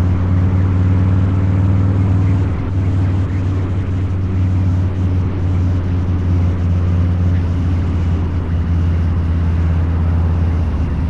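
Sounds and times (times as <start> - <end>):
motorcycle engine at steady throttle: 0.0 - 11.0.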